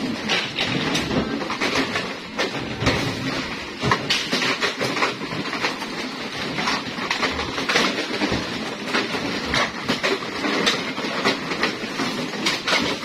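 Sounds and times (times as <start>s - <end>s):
plastic crates clattering: 0.0s - 13.0s.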